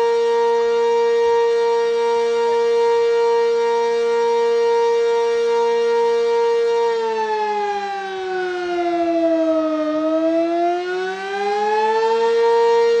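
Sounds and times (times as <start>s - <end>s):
warning siren wailing: 0.0s - 13.0s.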